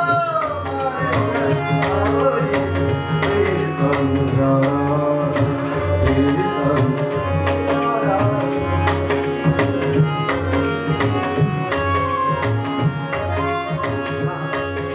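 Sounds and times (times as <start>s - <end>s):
bansuri flute: 0.0s - 14.9s
harmonium chords: 0.0s - 14.9s
tabla strokes: 0.0s - 14.9s.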